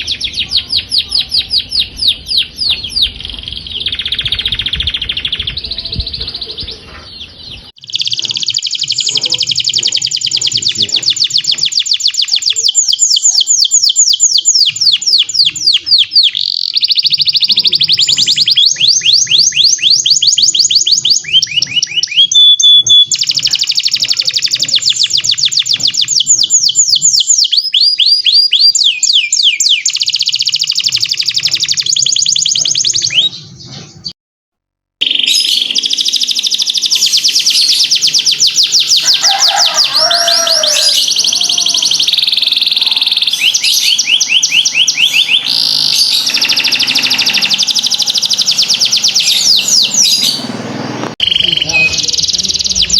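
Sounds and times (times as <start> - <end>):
canary singing trills: 0.0 - 34.1, 35.0 - 52.9.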